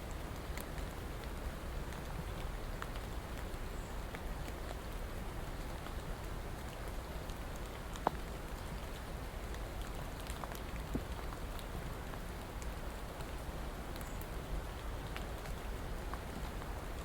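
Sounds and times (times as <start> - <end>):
close raindrops striking: 0.0 - 17.0
steady rain: 0.0 - 17.0.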